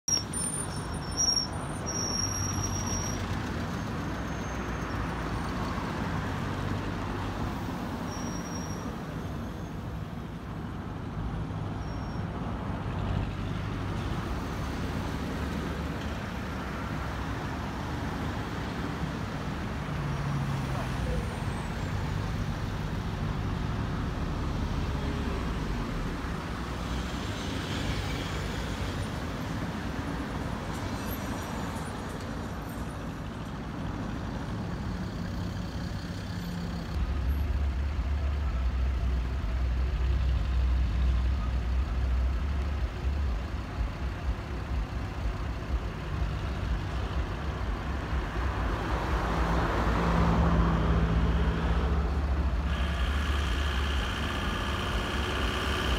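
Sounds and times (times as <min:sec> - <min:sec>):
heavy traffic rumble: 0:00.0 - 0:55.9.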